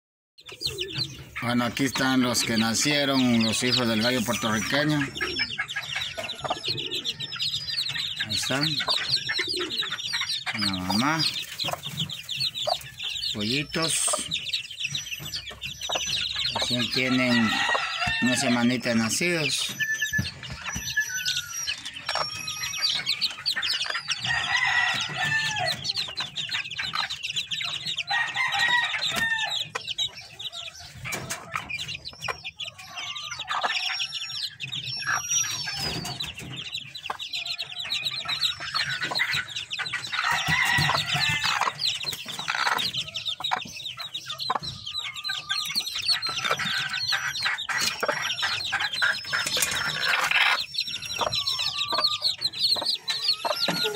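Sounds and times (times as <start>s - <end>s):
chicks peeping: 0.4s - 53.9s
hen clucking: 0.4s - 53.9s.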